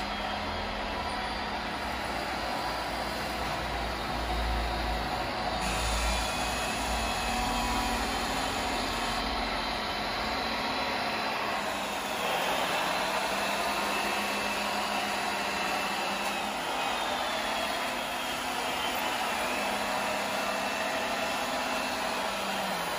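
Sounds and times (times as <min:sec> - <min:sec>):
electric motor whining: 0:00.0 - 0:22.9.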